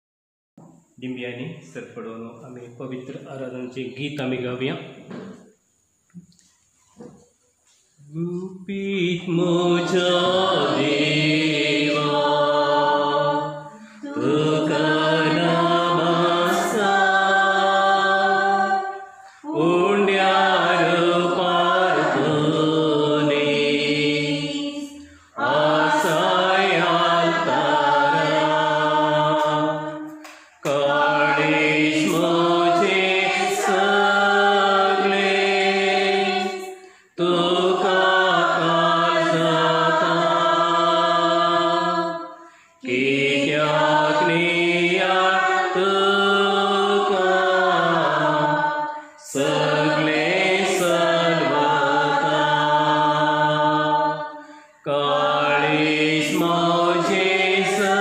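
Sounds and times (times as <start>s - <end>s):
voices singing a slow hymn: 0.6s - 58.0s.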